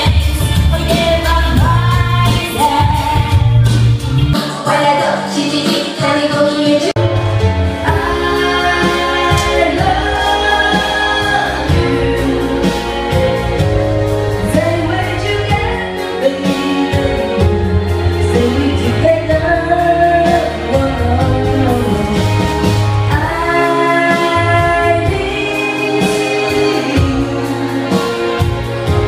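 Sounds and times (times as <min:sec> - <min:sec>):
woman singing into a microphone: 0:00.0 - 0:03.7, 0:04.4 - 0:07.0, 0:07.8 - 0:29.0
pop backing track with bass: 0:00.0 - 0:29.0.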